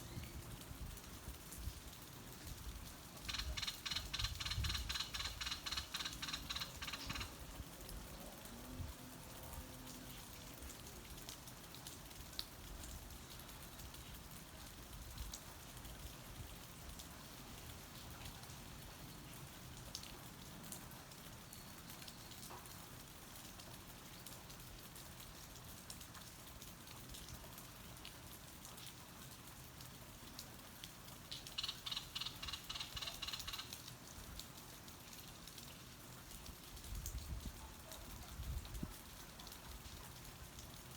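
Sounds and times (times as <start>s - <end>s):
raindrops tapping close by: 0.0s - 40.9s
steady rain: 0.0s - 40.9s.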